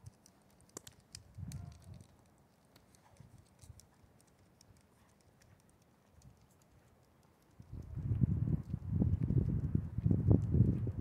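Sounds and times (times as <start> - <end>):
faint footsteps on pavement: 0.0 - 11.0.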